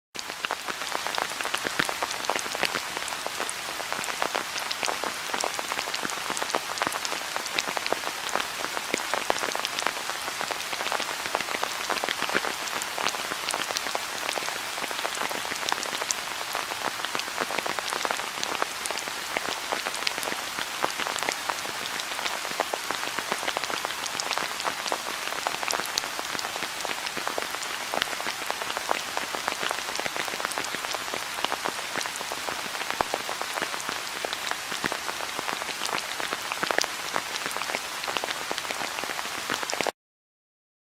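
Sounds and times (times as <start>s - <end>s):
raindrops pattering on hard surface: 0.2s - 39.9s.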